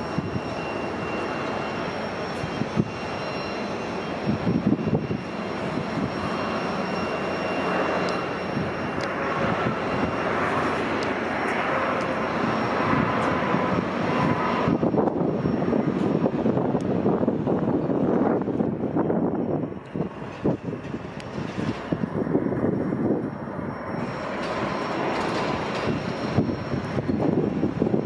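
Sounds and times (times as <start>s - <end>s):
faint high engine whine: 0.0s - 28.0s
jet engines rushing: 0.0s - 28.0s.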